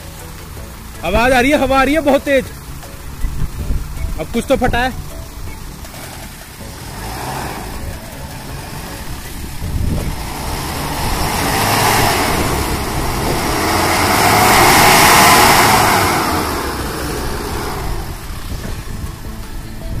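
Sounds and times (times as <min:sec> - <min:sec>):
diesel engine revving hard: 0:00.6 - 0:20.0.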